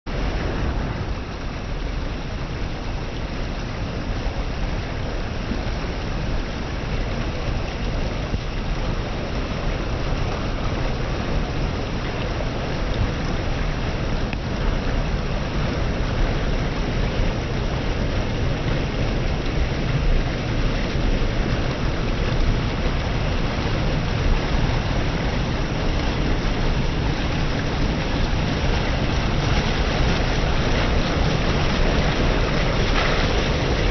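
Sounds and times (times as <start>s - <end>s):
fast-flowing river water: 0.1s - 33.9s.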